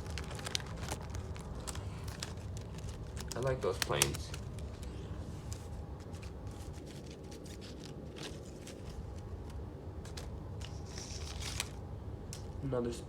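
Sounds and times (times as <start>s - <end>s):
paper cards rustling: 0.0s - 12.6s.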